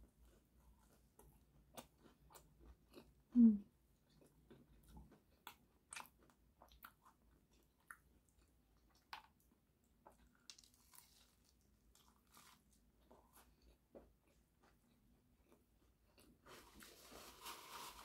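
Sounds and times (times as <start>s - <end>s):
chewing crunchy sandwich: 0.2s - 3.3s, 3.9s - 17.4s.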